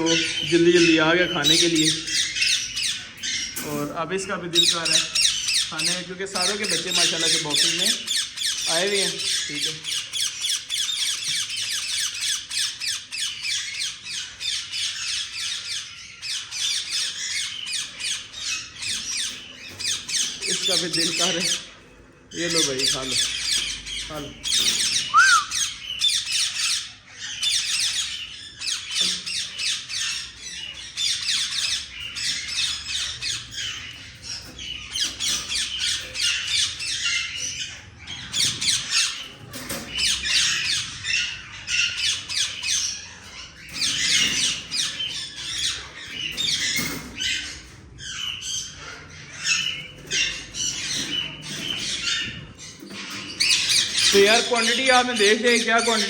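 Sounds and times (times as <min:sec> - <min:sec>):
parrots squawking: 0:00.0 - 0:56.0.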